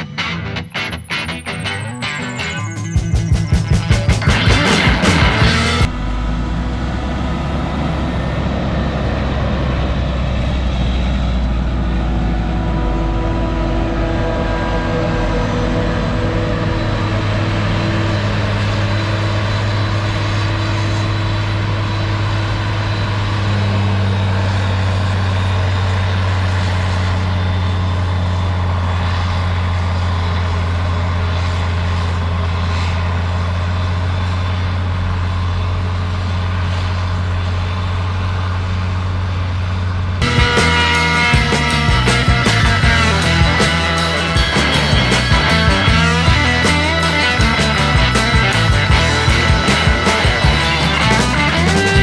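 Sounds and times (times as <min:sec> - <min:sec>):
farm vehicle engine humming: 0:00.0 - 0:52.0.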